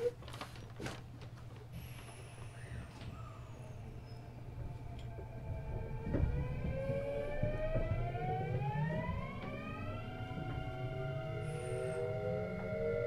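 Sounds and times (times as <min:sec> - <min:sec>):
low rumble of running train: 0:01.7 - 0:13.0
train traction inverter whining: 0:02.4 - 0:13.0.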